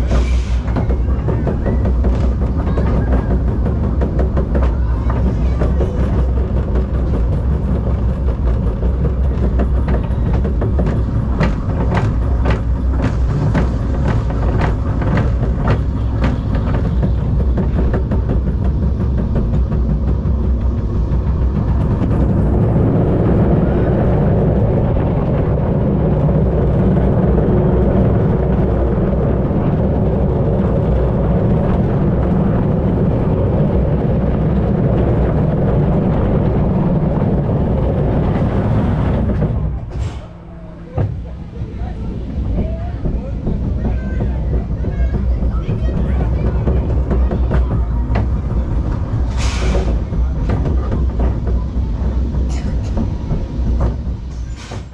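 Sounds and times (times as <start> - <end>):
roller coaster on steel track: 0.0 - 54.9.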